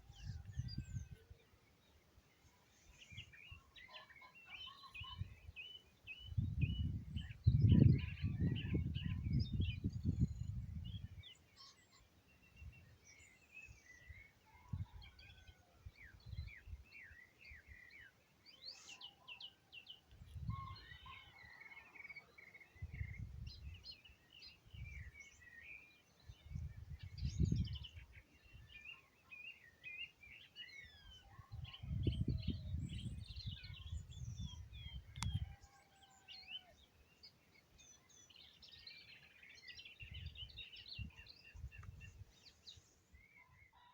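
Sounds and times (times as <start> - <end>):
small birds singing and chirping: 0.0 - 43.9.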